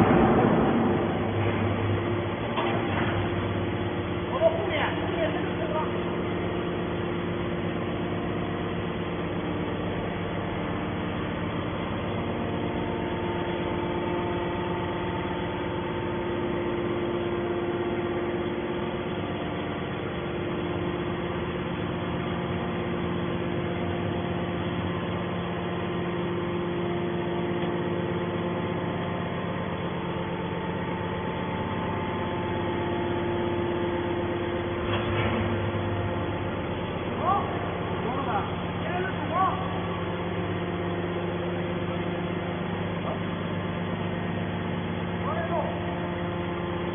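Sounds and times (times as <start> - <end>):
machine hum: 0.0 - 46.9.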